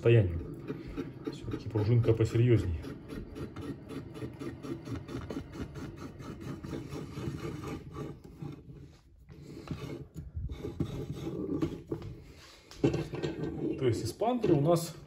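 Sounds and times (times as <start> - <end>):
rubbing scrape of turning mechanism: 0.0 - 14.7.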